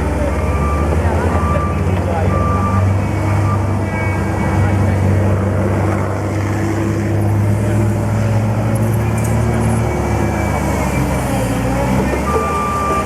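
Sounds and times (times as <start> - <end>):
loader diesel engine running: 0.0 - 13.0.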